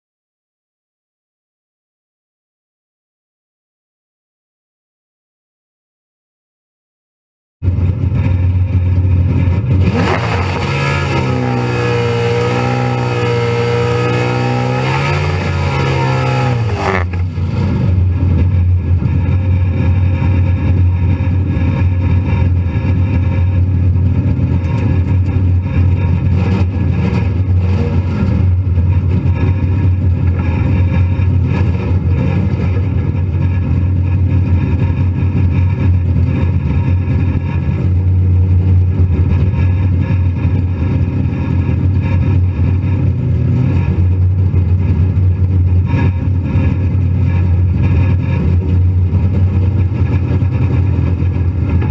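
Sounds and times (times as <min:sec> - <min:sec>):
car engine droning: 0:07.6 - 0:51.9.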